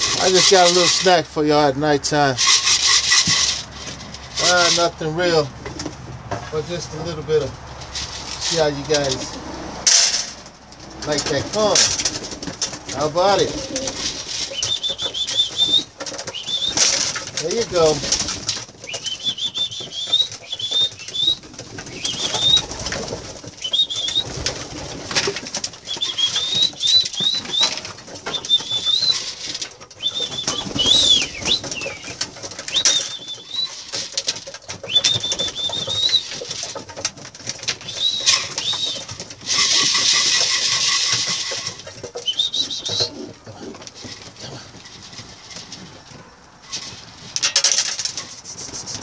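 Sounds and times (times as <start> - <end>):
pigeons chirping: 0.0 - 49.0
pigeons pecking: 0.0 - 49.0
wings flapping: 9.2 - 49.0.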